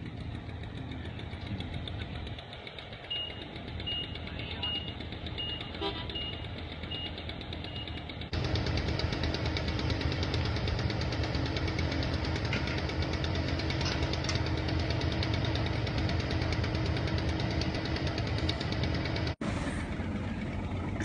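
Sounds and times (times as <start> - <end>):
piston engines idling: 0.0 - 21.0.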